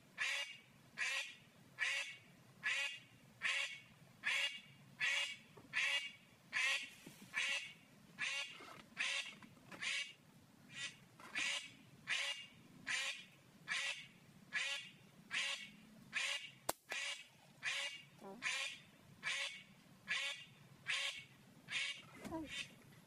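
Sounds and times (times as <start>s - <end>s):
duck calling: 0.2s - 22.8s.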